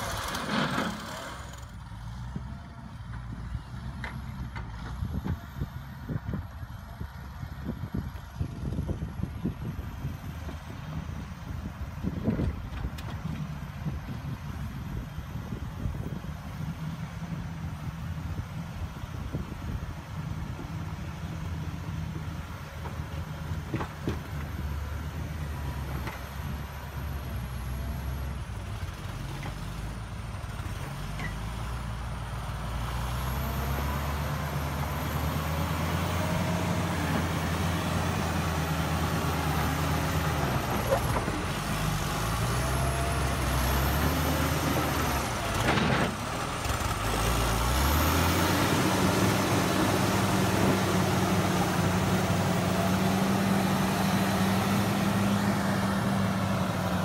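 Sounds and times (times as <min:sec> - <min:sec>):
grader diesel engine running: 0:00.0 - 0:57.0.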